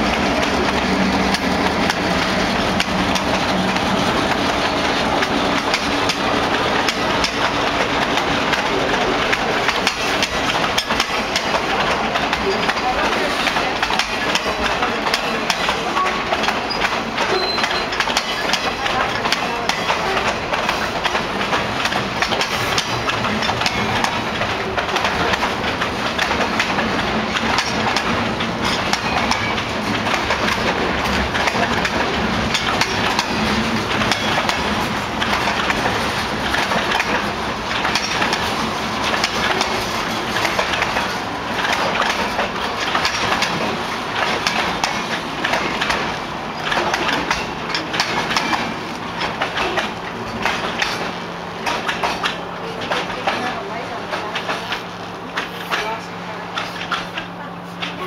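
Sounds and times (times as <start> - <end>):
freight train wheels rumbling: 0.0 - 58.0
wheels clacking over rail joints: 0.0 - 58.0.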